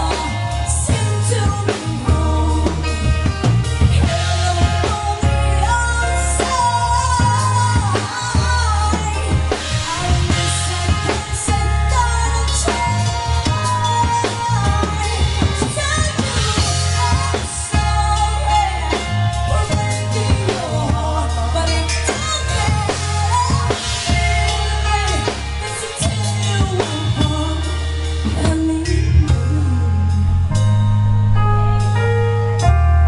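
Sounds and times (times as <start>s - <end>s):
woman singing: 0.0s - 30.6s
bass guitar: 0.0s - 33.0s
drum kit: 0.0s - 33.0s
electric keyboard: 0.0s - 33.0s.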